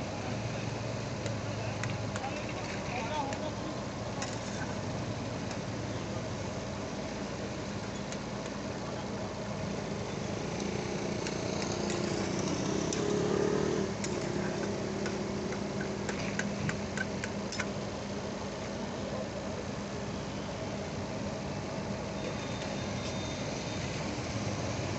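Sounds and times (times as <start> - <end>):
steady engine-like hum: 0.0 - 24.9.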